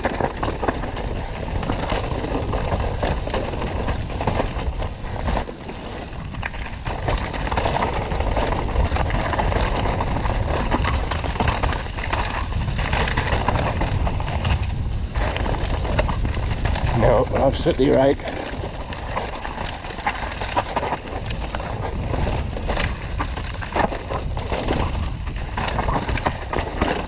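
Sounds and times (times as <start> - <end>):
bike rattling and knocking: 0.0 - 27.0
wind and tyres rushing on dirt: 0.0 - 27.0.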